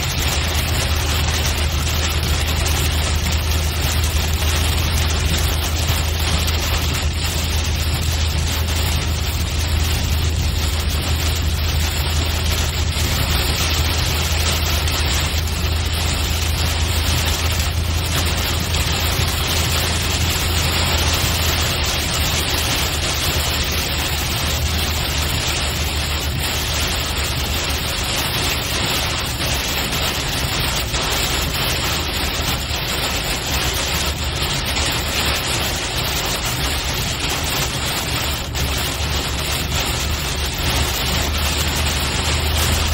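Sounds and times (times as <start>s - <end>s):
car road and engine drone: 0.0s - 42.9s
rain and tyre spray hiss: 0.0s - 42.9s.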